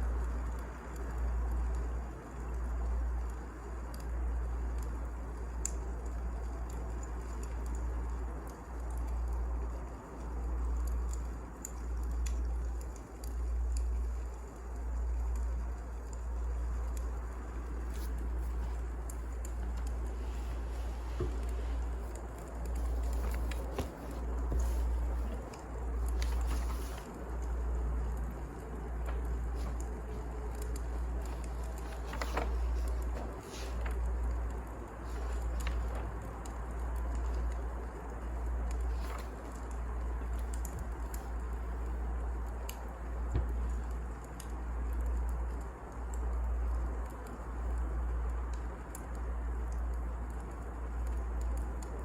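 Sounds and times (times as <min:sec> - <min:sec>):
low fire rumble: 0:00.0 - 0:52.0
wood fire crackling: 0:00.0 - 0:52.0.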